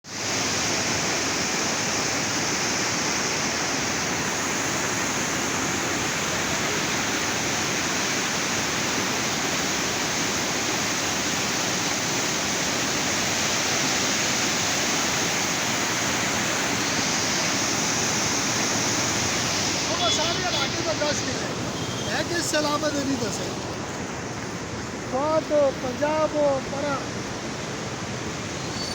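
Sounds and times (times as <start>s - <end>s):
fast river water rushing: 0.1s - 28.9s.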